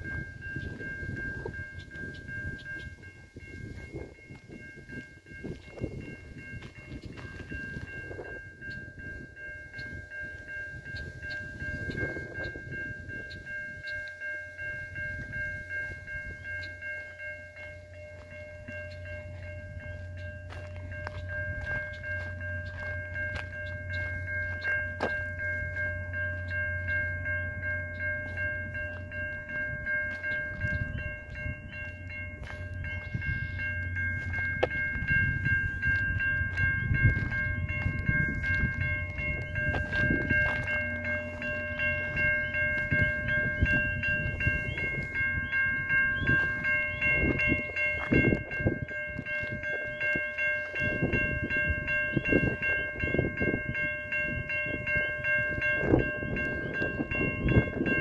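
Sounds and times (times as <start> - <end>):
crossing warning bell ringing: 0.0 - 58.0
passenger train rumbling: 0.0 - 58.0.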